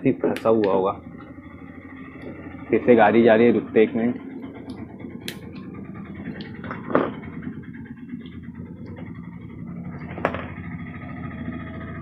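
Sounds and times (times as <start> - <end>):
vehicle rumbling by: 0.0 - 12.0.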